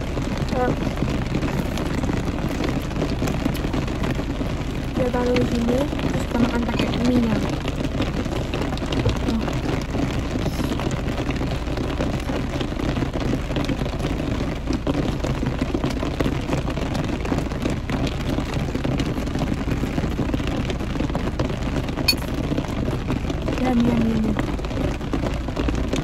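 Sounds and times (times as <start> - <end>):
rain drumming on car roof: 0.0 - 26.0.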